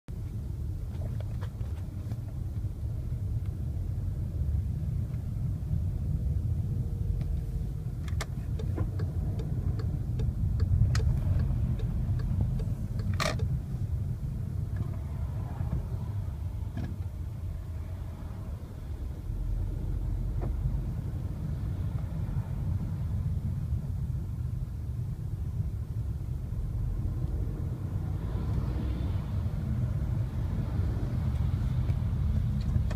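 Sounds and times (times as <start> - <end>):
car engine rumble: 0.1 - 32.9.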